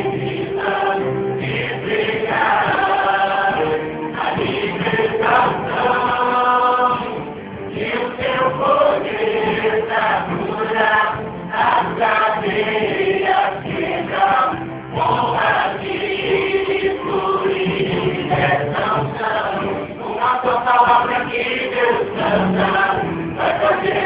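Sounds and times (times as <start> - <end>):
instrumental backing: 0.0 - 24.0
voices singing gospel song: 0.0 - 24.0.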